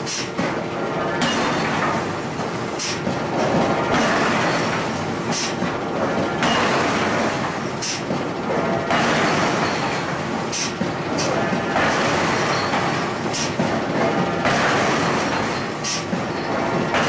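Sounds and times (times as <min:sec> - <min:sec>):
industrial machinery din: 0:00.0 - 0:17.0.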